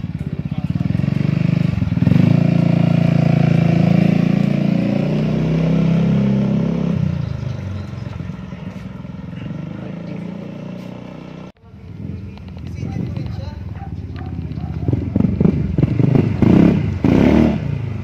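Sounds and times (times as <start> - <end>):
scooter engine running loud: 0.0 - 18.0.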